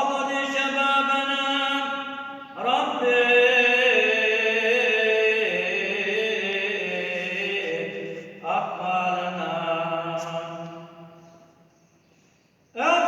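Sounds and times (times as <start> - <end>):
man chanting a prayer: 0.0 - 10.9, 12.8 - 13.0.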